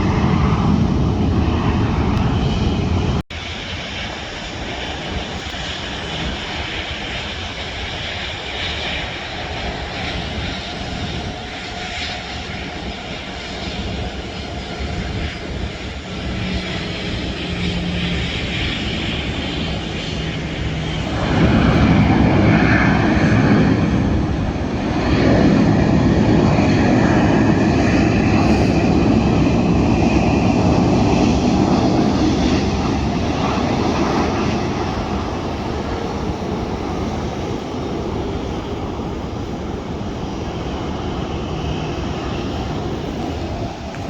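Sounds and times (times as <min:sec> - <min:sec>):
jet airliner engine roar: 0:00.0 - 0:44.0.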